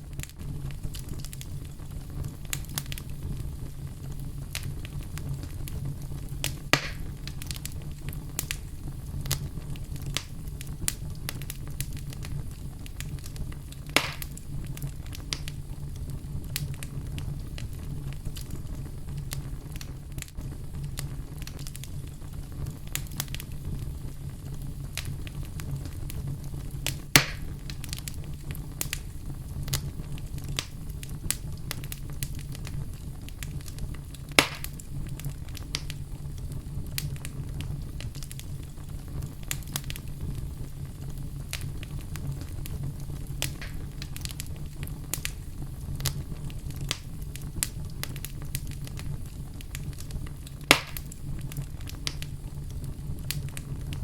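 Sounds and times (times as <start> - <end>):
fire crackling in fireplace: 0.0 - 54.0
loud fire pops: 0.0 - 54.0.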